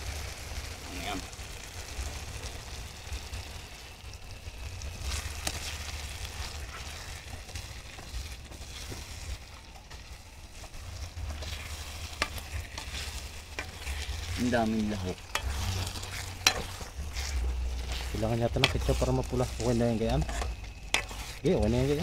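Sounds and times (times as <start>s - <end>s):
sauce sizzling in a wok: 0.0s - 22.0s
steady low rumble: 0.0s - 22.0s.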